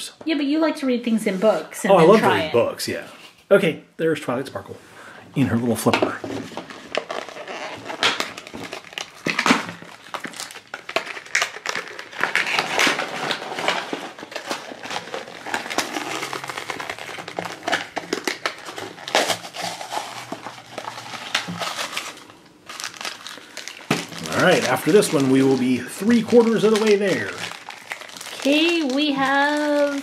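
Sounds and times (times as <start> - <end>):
plastic packaging crinkling: 5.7 - 30.0.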